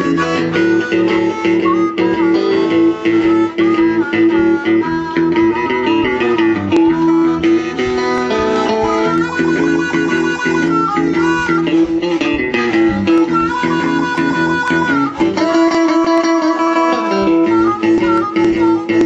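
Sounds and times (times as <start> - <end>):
electric guitar riff: 0.0 - 19.0
harmonica bending notes: 0.0 - 19.0.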